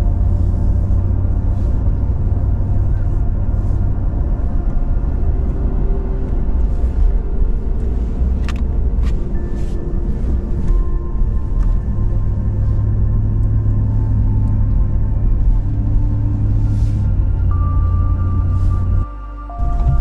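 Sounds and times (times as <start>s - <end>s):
ambient background music: 0.0s - 20.0s
truck engine rumble: 0.0s - 20.0s.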